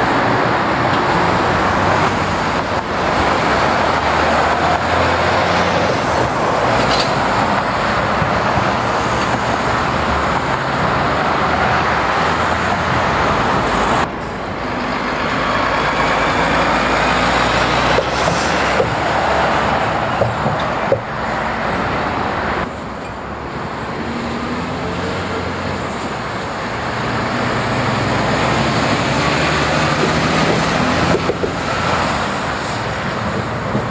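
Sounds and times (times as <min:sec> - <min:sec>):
lorries driving past: 0:00.0 - 0:33.9.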